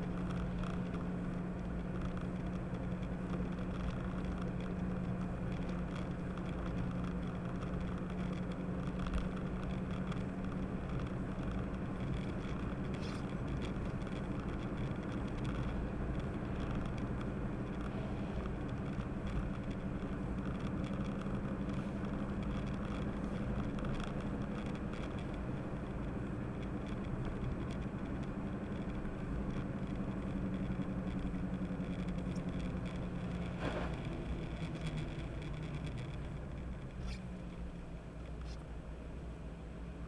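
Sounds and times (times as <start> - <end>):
car engine hum: 0.0 - 40.0
tyre noise on wet road: 0.0 - 40.0.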